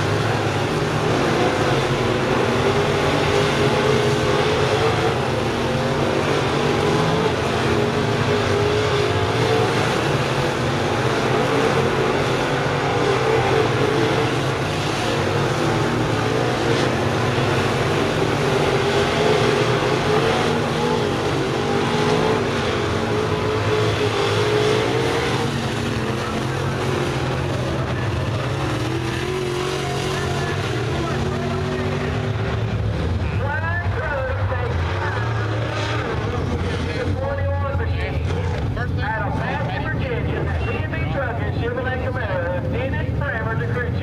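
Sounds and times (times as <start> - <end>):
race car engines droning: 0.0 - 44.0.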